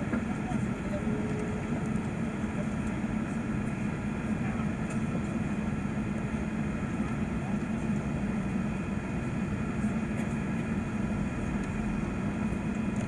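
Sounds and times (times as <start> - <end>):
airplane cabin engine drone: 0.0 - 13.0.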